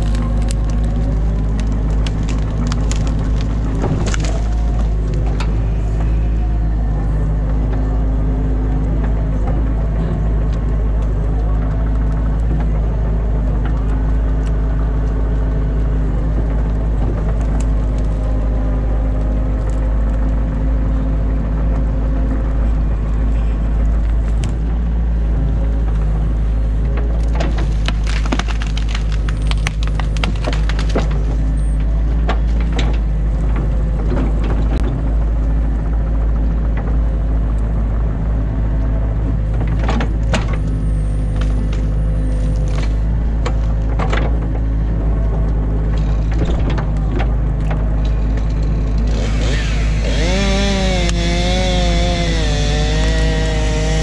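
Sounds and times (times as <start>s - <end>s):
sticks and branches cracking: 0.0s - 37.7s, 39.5s - 54.0s
diesel engine droning: 0.0s - 54.0s.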